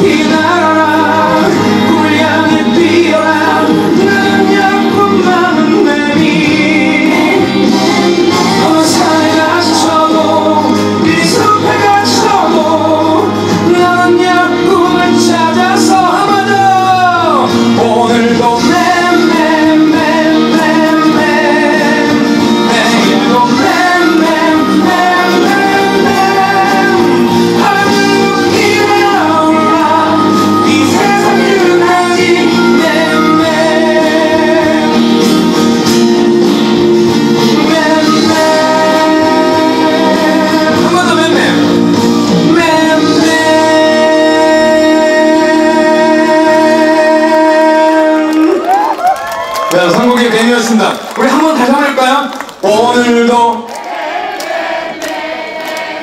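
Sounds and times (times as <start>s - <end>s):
acoustic guitar: 0.0s - 48.9s
man singing into a microphone: 0.0s - 49.0s.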